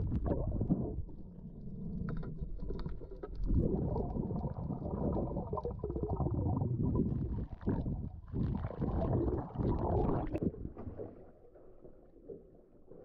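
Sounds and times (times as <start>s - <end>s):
muffled underwater rumble: 0.0s - 13.0s.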